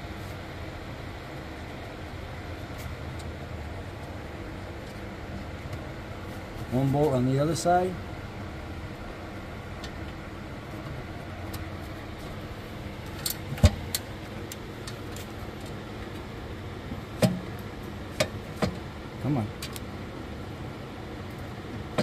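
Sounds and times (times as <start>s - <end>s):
steady shop hum: 0.0s - 22.0s.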